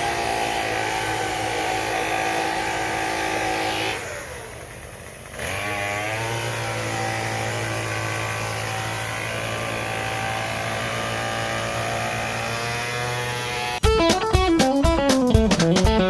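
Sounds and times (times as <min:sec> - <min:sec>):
leaf blower engine revving: 0:00.0 - 0:13.8.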